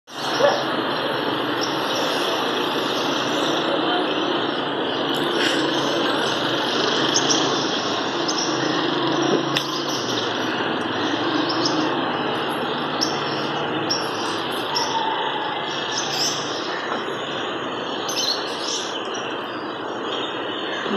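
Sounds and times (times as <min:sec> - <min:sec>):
small birds chirping: 0:00.1 - 0:20.9.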